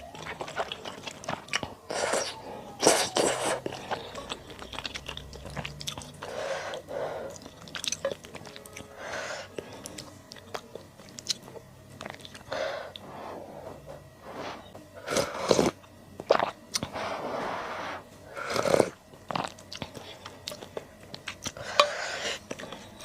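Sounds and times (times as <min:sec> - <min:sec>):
wet chewing: 0:00.0 - 0:13.1, 0:15.0 - 0:17.0, 0:18.4 - 0:23.0.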